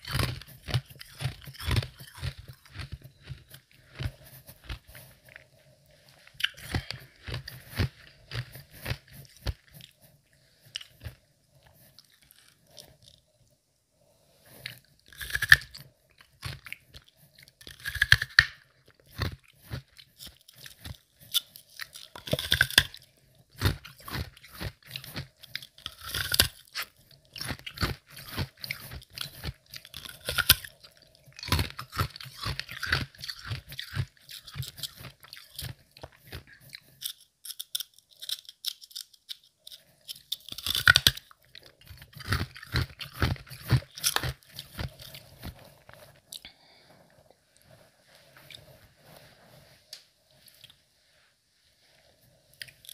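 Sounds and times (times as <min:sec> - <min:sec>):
chewing ice crunches: 0:00.0 - 0:10.0, 0:10.7 - 0:13.3, 0:14.5 - 0:46.5, 0:52.6 - 0:52.9.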